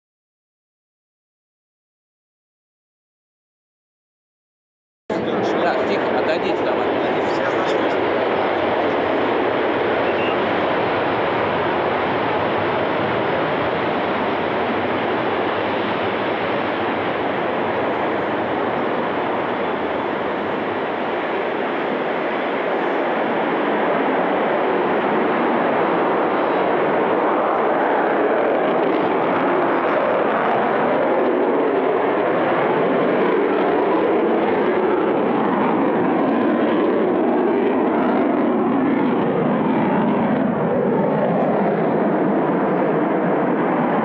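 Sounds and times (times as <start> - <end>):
jet engines at high power: 5.1 - 44.0.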